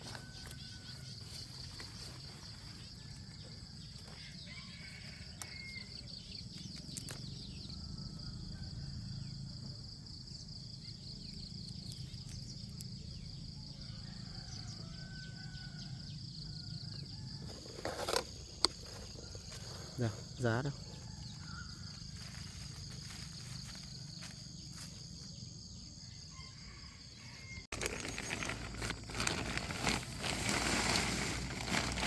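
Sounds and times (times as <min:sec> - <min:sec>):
high insect drone: 0:00.1 - 0:30.1.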